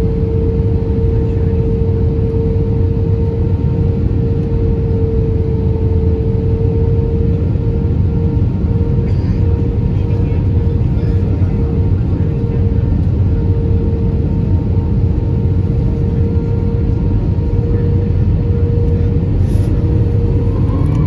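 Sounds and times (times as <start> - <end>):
aircraft cabin engine roar: 0.0 - 21.0
constant hum: 0.0 - 21.0.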